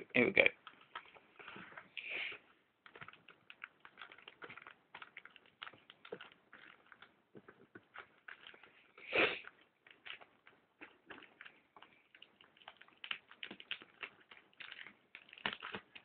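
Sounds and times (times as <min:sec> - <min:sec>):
plastic packaging crinkling: 0:00.5 - 0:16.0.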